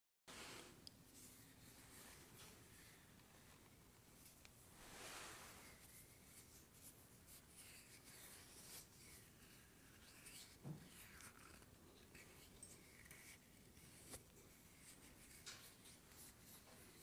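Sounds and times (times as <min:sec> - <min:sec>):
faint scratchy rubbing: 0:00.3 - 0:17.0.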